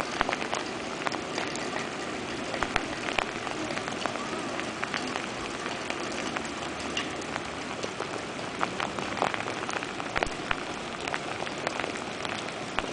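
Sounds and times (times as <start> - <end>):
steady rain: 0.0 - 12.9.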